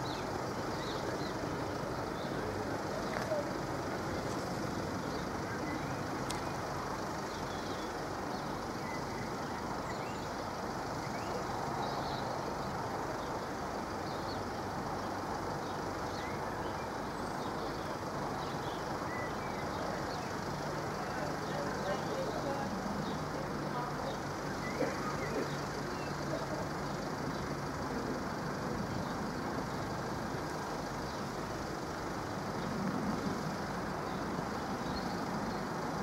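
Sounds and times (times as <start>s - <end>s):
steady vehicle rumble: 0.0s - 36.0s.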